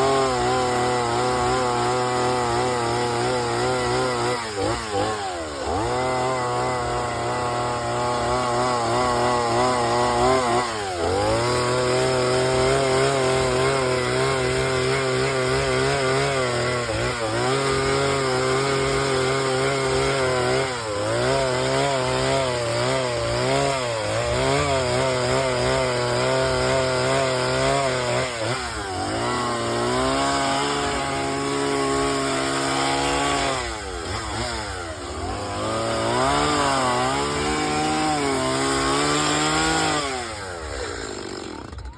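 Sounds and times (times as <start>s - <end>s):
chainsaw carving wood: 0.0s - 41.9s.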